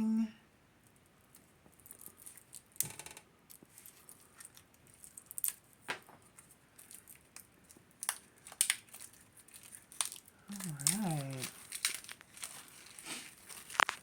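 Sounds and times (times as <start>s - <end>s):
packaging crinkling and tearing: 1.4s - 14.0s.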